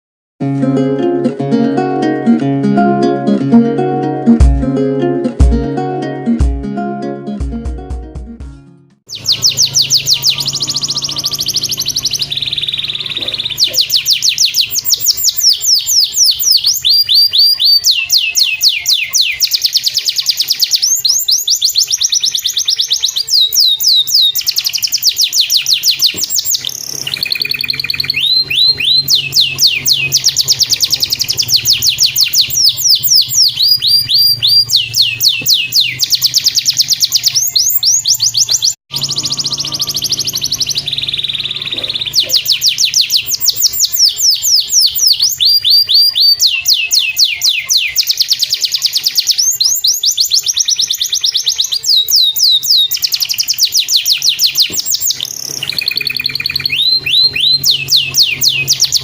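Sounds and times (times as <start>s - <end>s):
canary singing fast trills: 9.1s - 59.0s.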